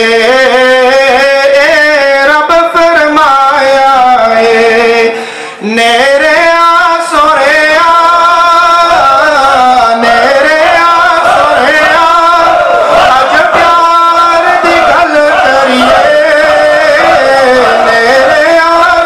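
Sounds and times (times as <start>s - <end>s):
man singing solo: 0.0s - 19.0s.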